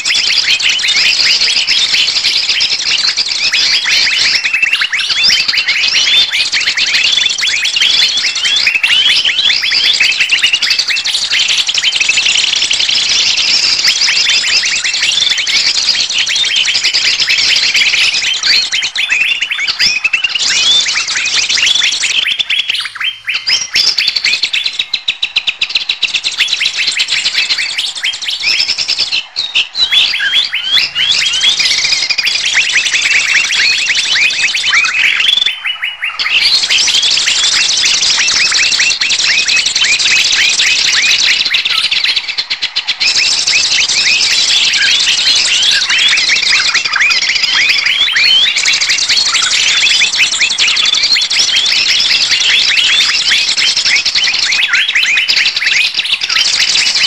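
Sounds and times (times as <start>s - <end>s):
flock of small birds chirping: 0.0s - 57.0s.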